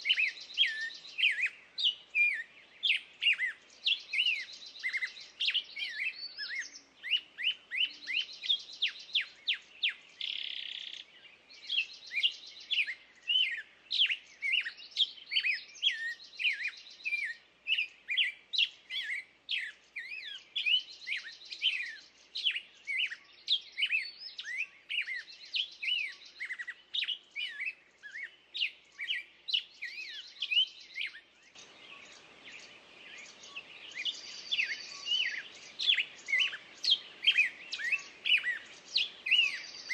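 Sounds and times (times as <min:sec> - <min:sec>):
faint low background noise: 0:00.0 - 0:39.9
songbirds chirping and trilling: 0:00.0 - 0:39.9.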